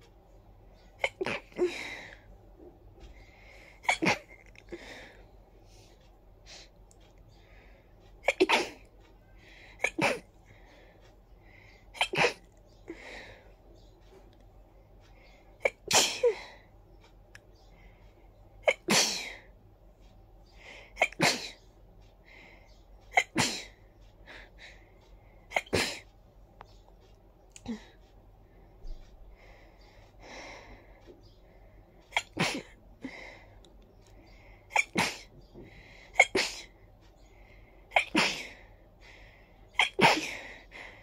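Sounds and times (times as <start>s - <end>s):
faint breaths: 0.0s - 3.9s, 4.5s - 8.2s, 8.8s - 15.6s, 16.2s - 18.6s, 19.2s - 41.0s.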